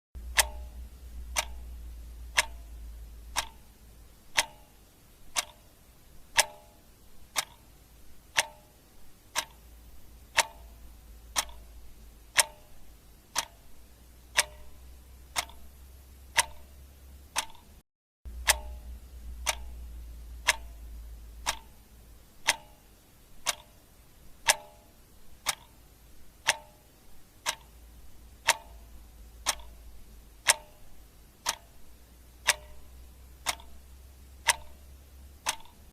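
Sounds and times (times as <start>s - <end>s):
clock ticking: 0.2s - 35.9s.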